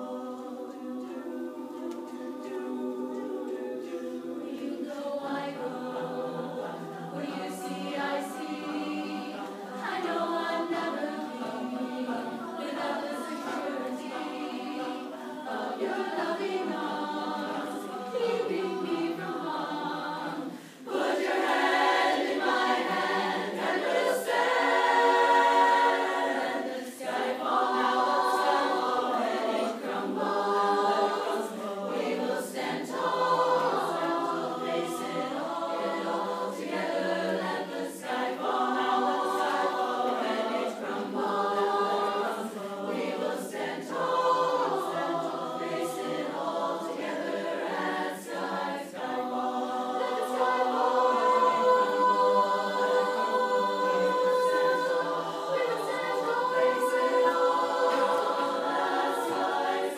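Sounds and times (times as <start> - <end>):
chorus singing in close harmony: 0.0 - 59.9.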